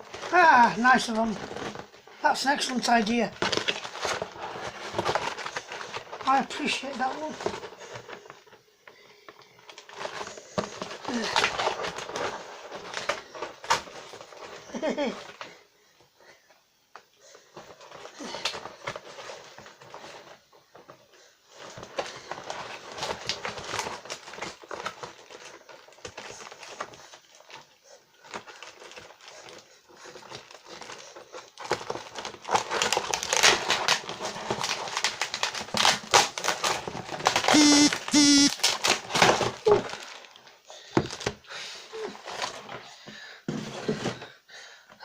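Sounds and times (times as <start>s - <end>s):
packaging crinkling and rustling: 0.0s - 15.6s, 17.0s - 41.5s.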